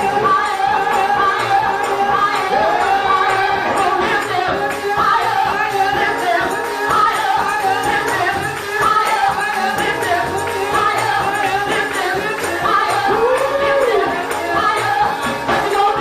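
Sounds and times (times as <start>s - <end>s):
tambourine beat: 0.0s - 16.0s
voices singing over a band: 0.0s - 16.0s.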